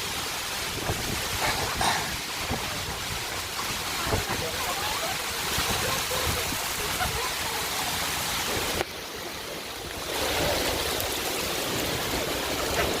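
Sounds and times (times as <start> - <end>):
hail pelting down: 0.0 - 13.0
wind: 0.0 - 13.0.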